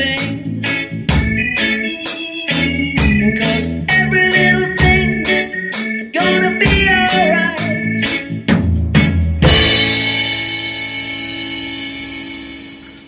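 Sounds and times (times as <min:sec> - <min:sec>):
acoustic drum kit: 0:00.0 - 0:13.0
reggae backing track with organ: 0:00.0 - 0:13.0.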